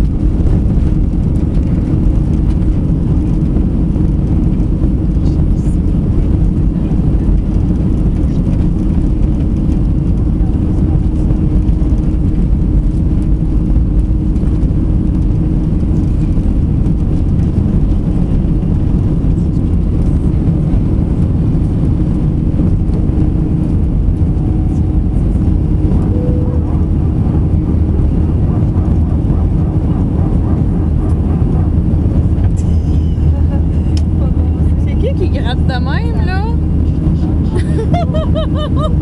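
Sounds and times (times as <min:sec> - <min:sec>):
jet engines rumbling in cabin: 0:00.0 - 0:39.0.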